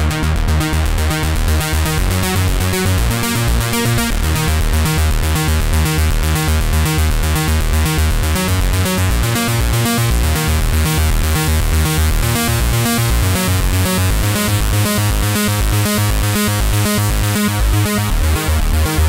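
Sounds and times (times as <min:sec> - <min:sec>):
pulsing synth bass: 0:00.0 - 0:19.0
repeating electronic synth pattern: 0:00.0 - 0:19.0.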